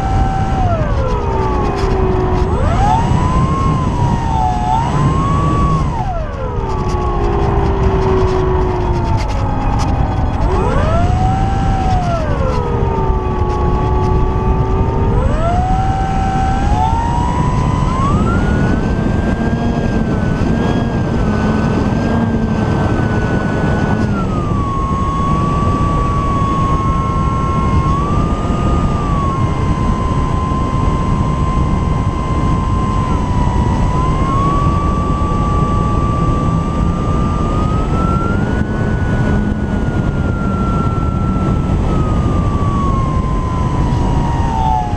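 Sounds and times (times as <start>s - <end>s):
model plane motor whining: 0.0s - 44.9s
wind on microphone: 0.0s - 44.9s.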